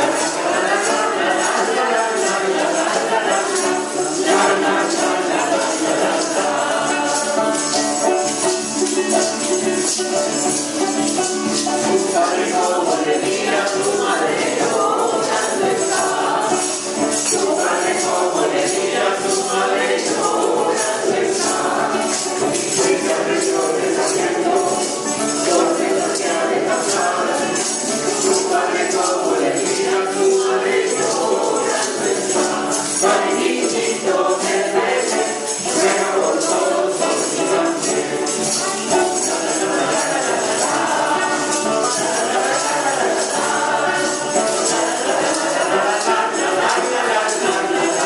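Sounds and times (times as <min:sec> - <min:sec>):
choir singing a carol: 0:00.0 - 0:48.0
hand percussion shaking: 0:00.0 - 0:48.0.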